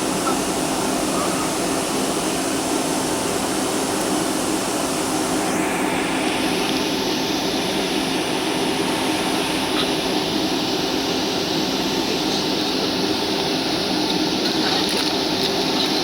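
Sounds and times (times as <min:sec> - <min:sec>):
jet engine cabin noise: 0:00.0 - 0:16.0.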